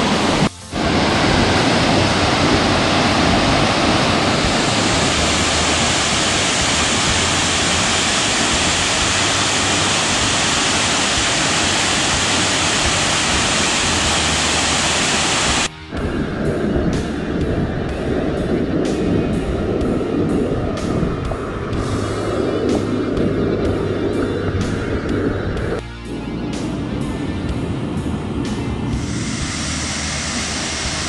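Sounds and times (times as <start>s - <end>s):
waterfall rushing: 0.0s - 25.8s, 27.9s - 31.0s.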